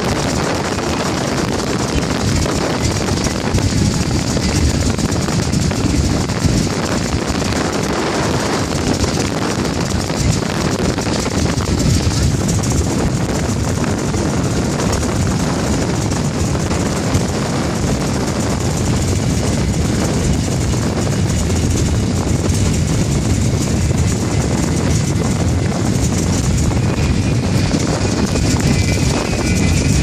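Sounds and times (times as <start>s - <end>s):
outboard boat engines droning: 0.0s - 30.0s
speed boat high whine: 0.0s - 30.0s
wind and water rushing: 0.0s - 30.0s.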